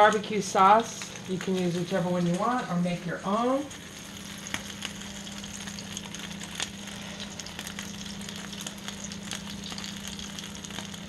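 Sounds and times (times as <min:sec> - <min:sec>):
chicken sizzling on grill: 0:00.0 - 0:11.0
low hum: 0:00.0 - 0:11.0.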